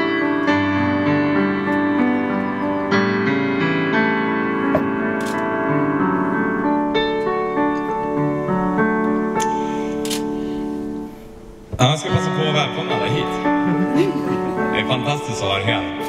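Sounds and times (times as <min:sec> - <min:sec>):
digital piano chords: 0:00.0 - 0:16.0.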